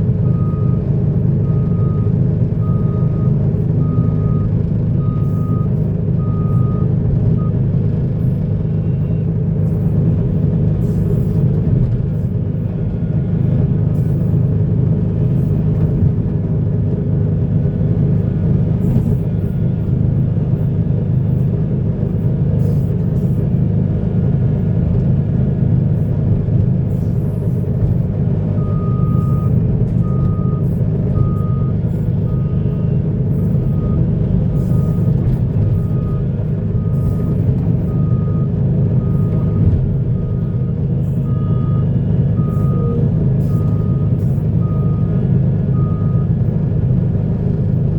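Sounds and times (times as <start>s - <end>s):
heavy diesel machinery running: 0.0s - 47.9s
truck reversing alarm beeping: 0.2s - 14.5s, 15.1s - 16.2s, 18.2s - 46.7s.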